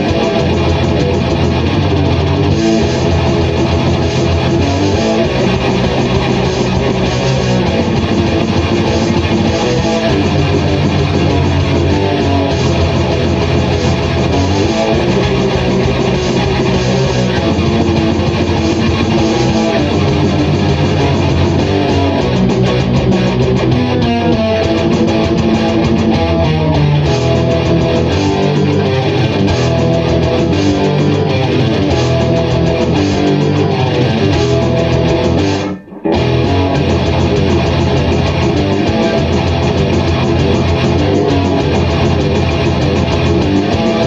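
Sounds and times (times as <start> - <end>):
distorted electric guitar riffing: 0.0 - 44.0.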